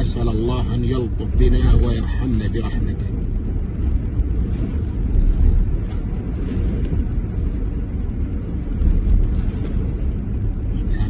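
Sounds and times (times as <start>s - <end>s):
car running noise: 0.0s - 11.0s
wind buffeting car: 0.0s - 11.0s.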